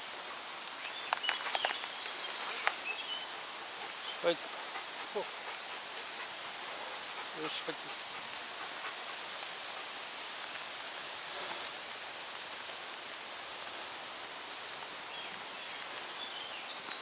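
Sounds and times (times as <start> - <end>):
rain: 0.0 - 17.0
wind: 0.0 - 17.0.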